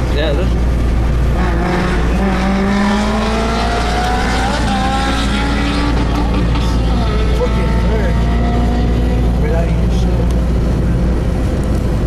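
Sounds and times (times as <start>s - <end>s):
low road rumble: 0.0s - 12.0s.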